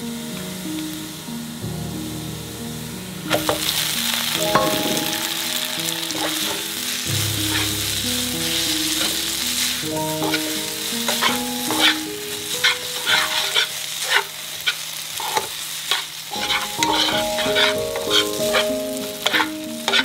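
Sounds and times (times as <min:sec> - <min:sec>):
spaghetti sizzling in frying pan: 0:02.8 - 0:20.0.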